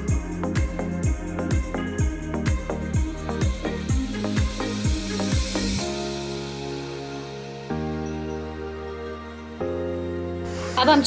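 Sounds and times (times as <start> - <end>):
soft music of held chords: 0.0 - 11.0.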